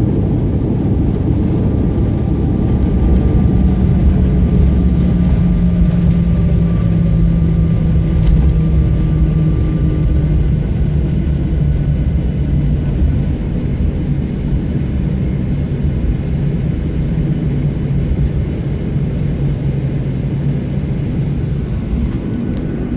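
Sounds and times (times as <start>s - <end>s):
airliner rumble: 0.0s - 22.9s.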